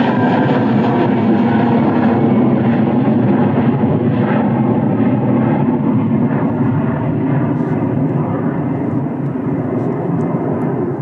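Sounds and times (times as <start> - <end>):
jet airliner engines running: 0.0 - 11.0.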